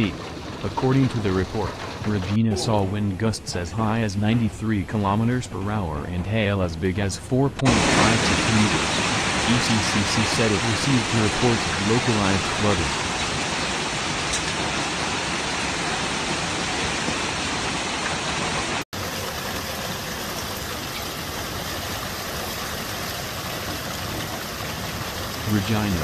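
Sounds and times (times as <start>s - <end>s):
heavy rain pouring: 0.0s - 4.9s, 7.6s - 26.0s.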